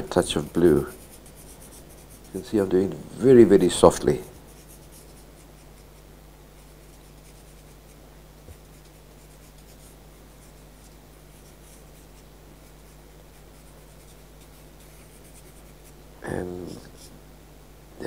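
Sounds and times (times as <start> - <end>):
pencil scratching on paper: 0.0 - 2.5, 3.7 - 16.0, 16.7 - 17.2
steady low hum: 0.0 - 18.0.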